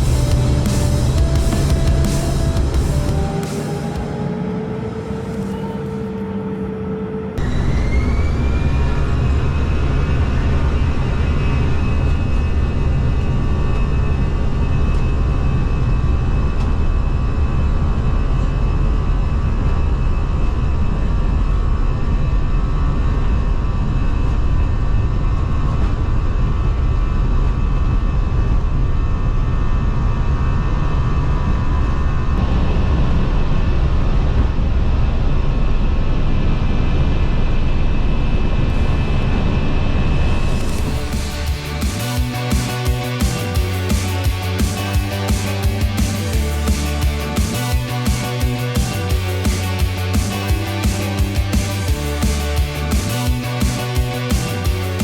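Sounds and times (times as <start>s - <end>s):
jet engines whining at takeoff: 0.0s - 55.0s
loud steady cabin rumble: 0.0s - 55.0s.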